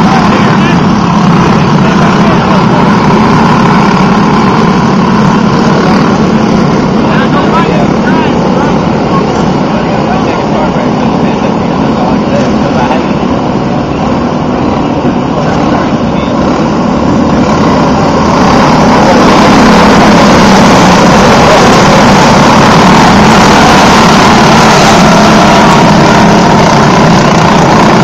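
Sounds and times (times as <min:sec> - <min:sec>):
kart engines at full throttle: 0:00.0 - 0:28.0.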